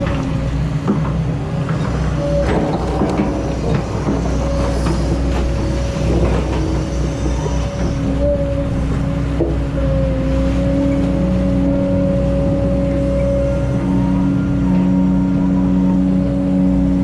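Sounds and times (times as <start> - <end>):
diesel engine rumble: 0.0 - 17.0
hydraulic whine: 0.0 - 17.0.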